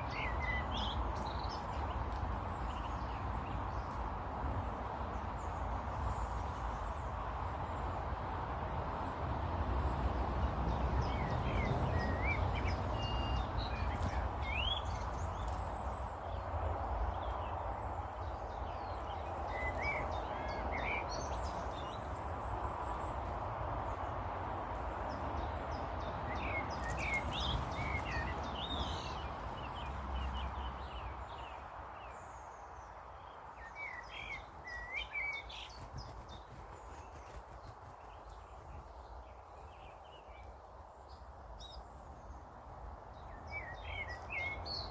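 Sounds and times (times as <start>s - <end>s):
small birds chirping: 0.0s - 8.0s, 9.8s - 44.9s.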